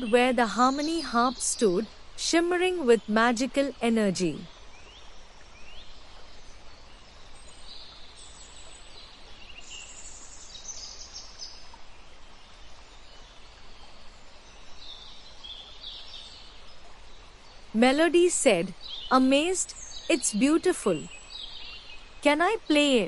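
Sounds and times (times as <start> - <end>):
small birds chirping: 0.0 - 23.0
steady background hiss: 0.0 - 23.0.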